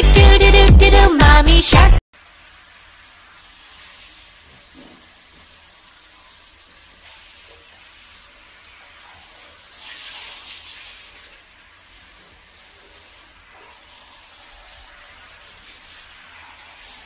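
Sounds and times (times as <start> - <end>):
shower spraying onto tiled floor: 2.1 - 17.0.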